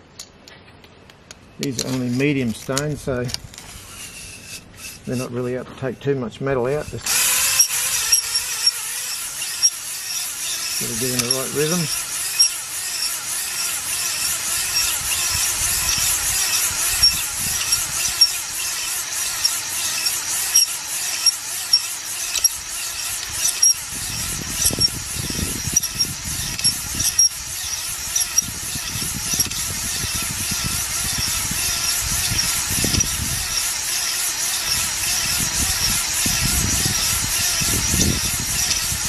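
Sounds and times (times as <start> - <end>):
hone stones scraping metal: 1.3 - 39.0
drill whirring: 3.3 - 5.4, 6.6 - 39.0.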